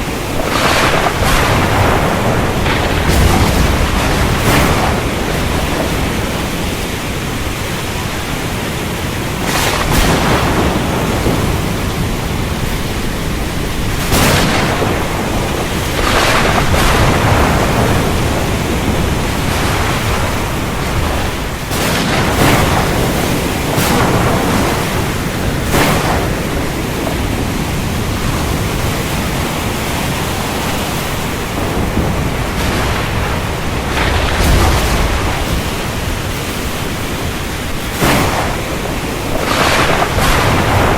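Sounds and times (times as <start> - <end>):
heavy rain falling: 0.0 - 40.9
thunder cracks: 0.0 - 40.9.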